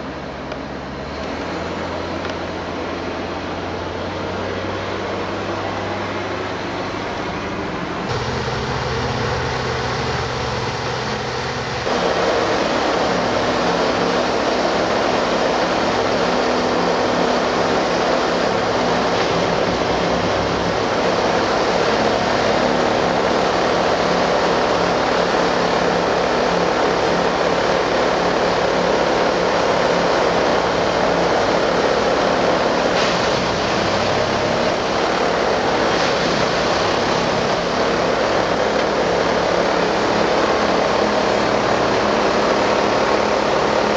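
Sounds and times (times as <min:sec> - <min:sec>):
diesel hydraulic machine running: 0:00.0 - 0:43.9.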